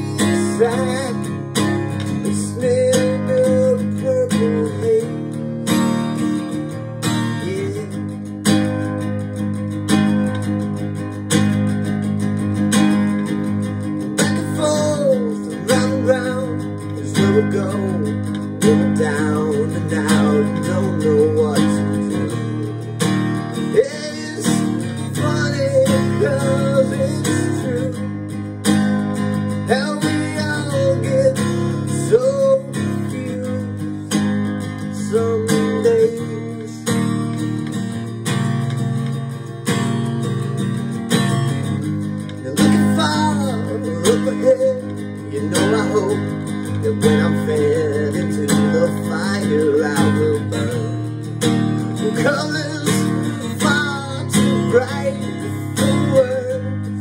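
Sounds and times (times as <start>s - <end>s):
song with strummed acoustic guitar: 0.0s - 57.0s.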